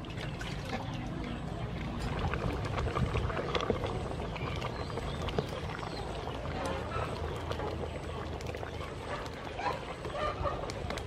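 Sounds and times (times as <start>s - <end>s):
curry bubbling in a pot: 0.0s - 11.0s.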